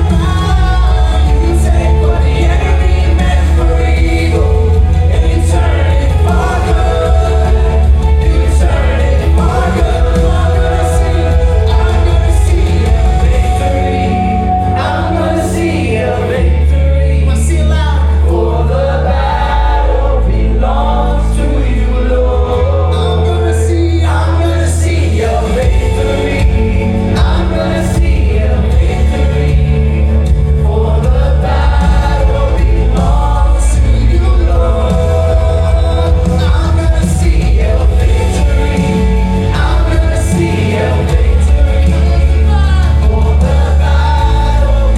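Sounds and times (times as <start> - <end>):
band with sustained bass notes: 0.0 - 44.9
choir singing: 0.0 - 44.9.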